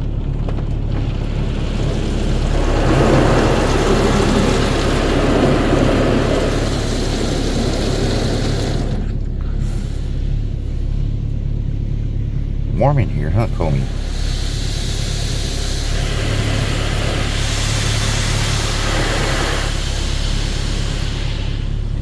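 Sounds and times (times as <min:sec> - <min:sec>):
car low hum: 0:00.0 - 0:22.0
car wash water spray hiss: 0:01.0 - 0:11.4, 0:14.0 - 0:22.0.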